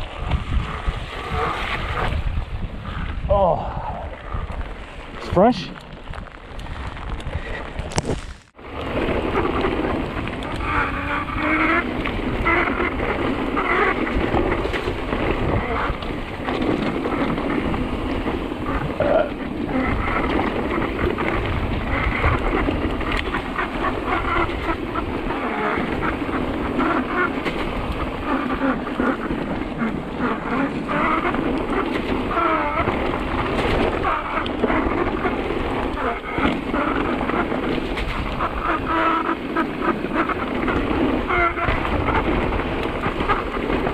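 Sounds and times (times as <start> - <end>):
wind rumble on microphone: 0.0 - 43.9
bike clattering over rough ground: 4.4 - 43.9.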